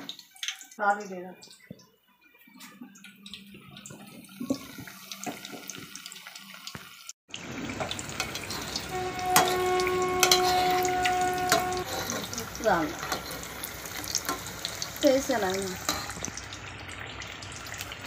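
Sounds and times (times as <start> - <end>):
food deep-frying in hot oil: 0.0 - 18.0.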